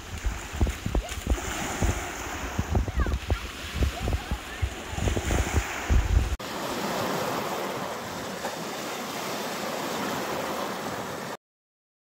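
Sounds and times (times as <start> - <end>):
lake waves breaking on rocks: 0.0 - 11.4.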